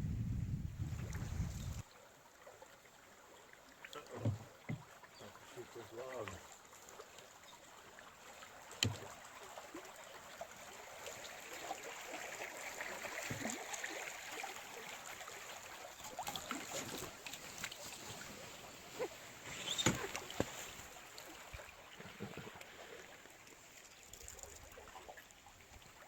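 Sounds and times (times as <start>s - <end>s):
paddle strokes swishing in water: 0.8s - 26.0s.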